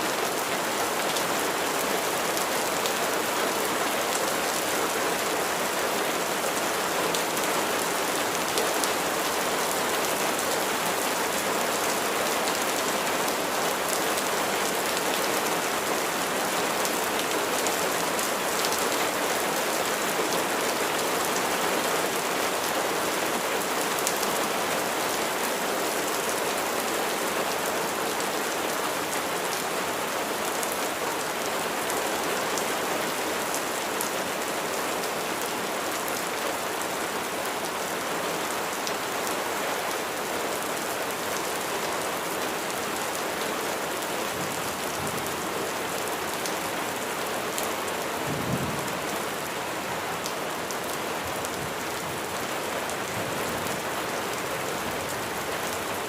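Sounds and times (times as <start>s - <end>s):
rain pattering: 0.1s - 56.0s.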